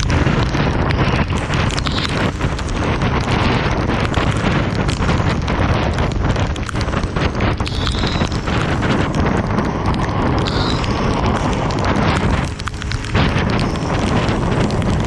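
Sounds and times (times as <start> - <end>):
heavy rain: 0.0 - 15.0
raindrops splashing on surfaces: 0.0 - 15.0.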